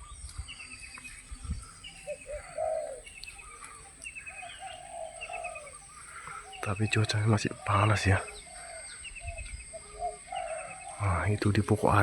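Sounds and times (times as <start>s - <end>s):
high insect-like whine: 0.0s - 12.0s
small birds chirping: 0.0s - 12.0s
dove cooing: 1.4s - 12.0s.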